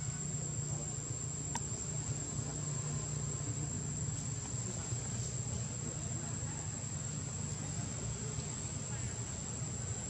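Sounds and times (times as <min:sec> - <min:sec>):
insects calling: 0:00.0 - 0:10.0.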